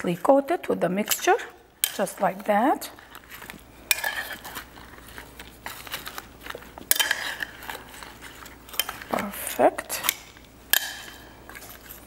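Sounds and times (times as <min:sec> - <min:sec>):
tongs tossing beets in bowl: 0:00.0 - 0:12.0.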